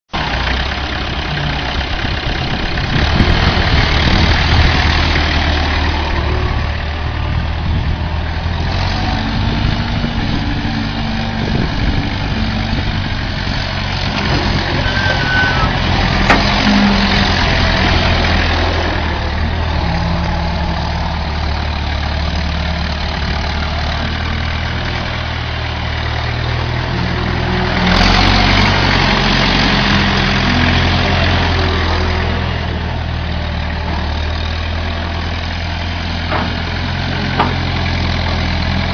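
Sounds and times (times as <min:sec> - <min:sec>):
tractor engine running: 0:00.1 - 0:38.9.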